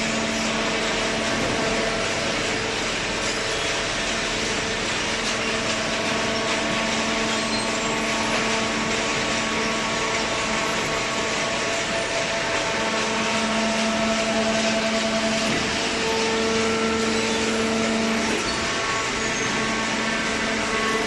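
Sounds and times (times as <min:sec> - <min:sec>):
baler motor and pump humming: 0:00.0 - 0:21.0.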